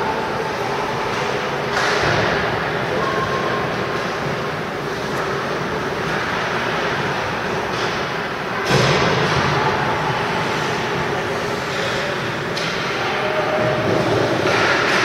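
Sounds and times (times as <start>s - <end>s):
arena noise: 0.0s - 15.0s.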